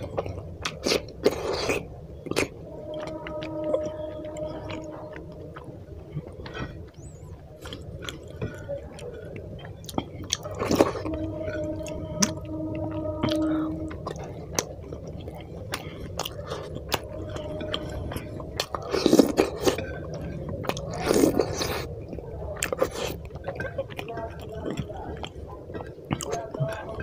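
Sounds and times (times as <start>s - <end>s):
chewing with wet mouth clicks: 0.0s - 3.4s, 4.4s - 12.4s, 14.0s - 27.0s.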